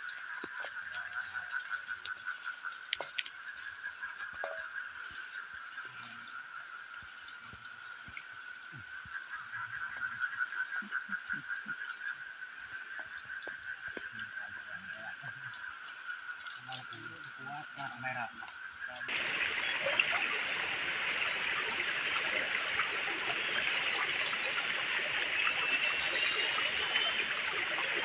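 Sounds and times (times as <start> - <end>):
insects and frogs droning: 0.0 - 28.0.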